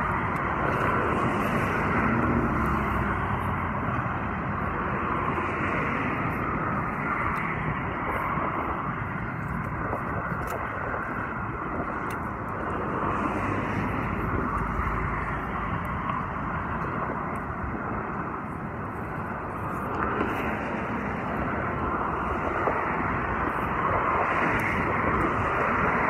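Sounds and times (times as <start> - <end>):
street traffic: 0.0 - 26.0
wind on microphone: 0.0 - 26.0.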